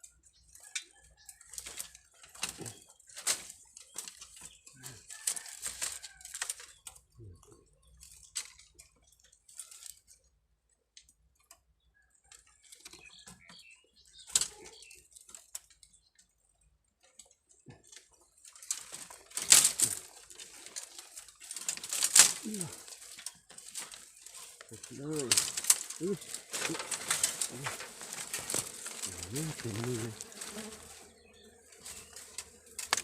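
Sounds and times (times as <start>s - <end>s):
leaves and twigs rustling: 0.1s - 10.3s, 13.9s - 16.0s, 17.0s - 33.0s.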